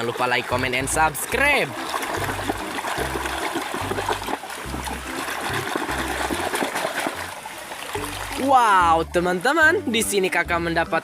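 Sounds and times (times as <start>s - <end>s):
river water splashing: 0.0s - 10.4s.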